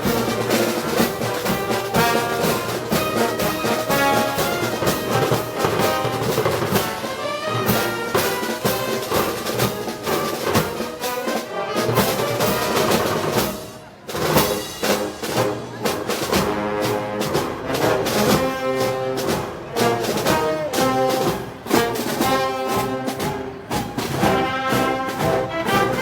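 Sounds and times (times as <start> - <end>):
brass band playing march: 0.0 - 26.0.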